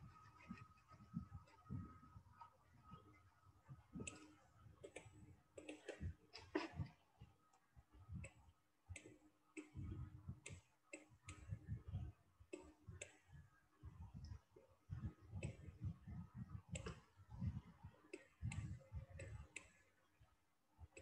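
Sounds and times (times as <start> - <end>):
faint irregular clicks and taps: 0.0 - 21.0.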